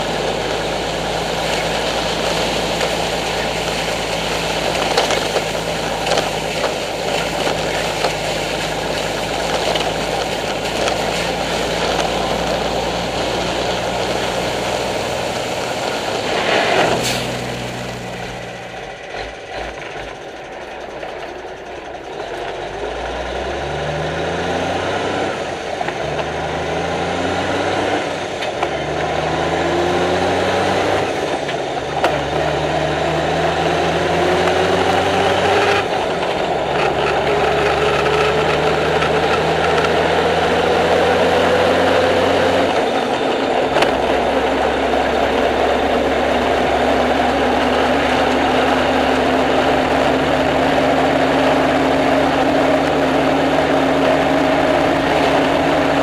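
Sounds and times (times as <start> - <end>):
drivetrain whine: 0.0 - 56.0
road noise: 0.0 - 56.0
truck engine accelerating: 0.0 - 56.0.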